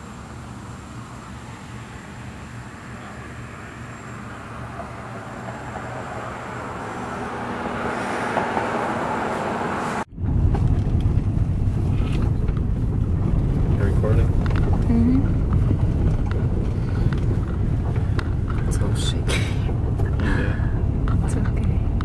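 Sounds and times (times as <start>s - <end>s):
roadside outdoor noise: 0.0s - 22.0s
car cabin rumble: 2.5s - 22.0s.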